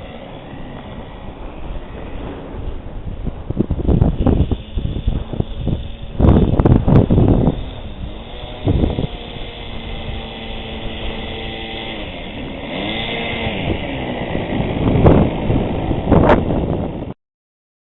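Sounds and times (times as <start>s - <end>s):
model plane engine: 0.0s - 17.2s
wind noise on microphone: 0.0s - 17.2s.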